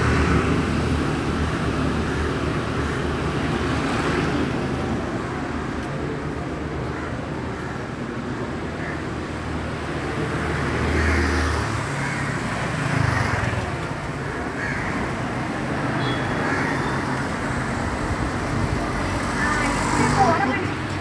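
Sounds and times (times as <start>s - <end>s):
passing motor vehicles: 0.0s - 21.0s.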